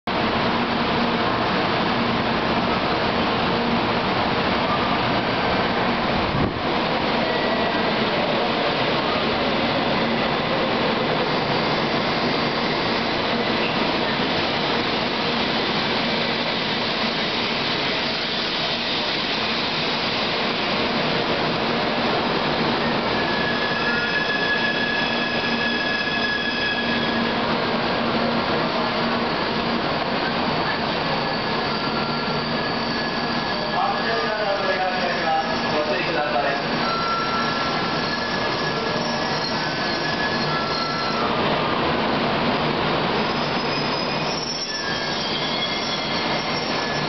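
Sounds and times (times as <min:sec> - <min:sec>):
high steady train whine: 0:00.1 - 0:47.0
train wheels rumbling on rail: 0:00.1 - 0:47.0.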